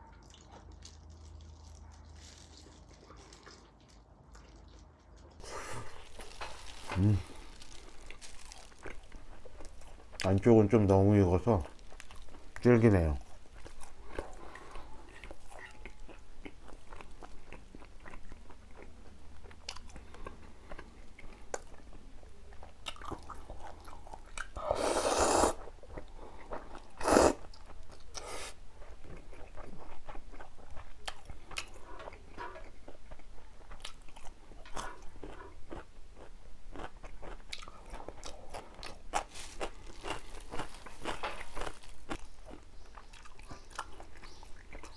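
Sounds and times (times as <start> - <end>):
wet chewing: 0.0 - 10.6, 11.5 - 44.9.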